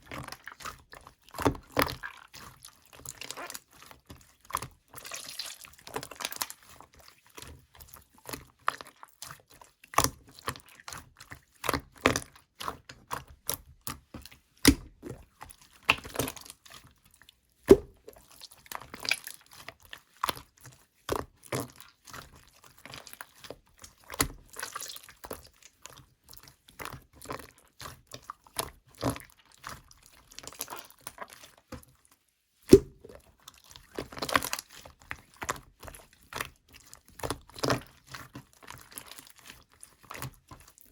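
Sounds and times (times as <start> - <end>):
slime squishing with sticky clicks: 0.1 - 32.0, 32.7 - 40.7.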